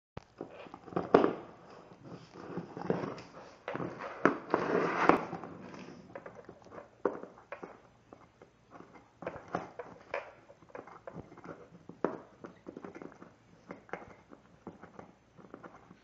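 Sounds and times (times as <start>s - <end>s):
puppy gnawing bone: 0.2s - 16.0s.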